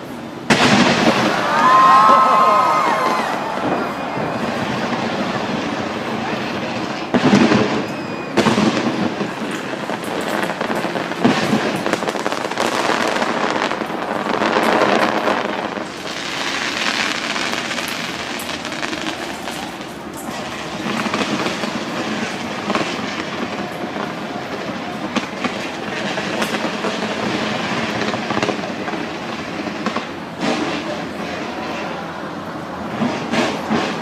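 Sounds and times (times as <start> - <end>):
fireworks crackling and banging: 0.0 - 34.0
sharp firework bangs: 0.4 - 32.0, 32.8 - 34.0.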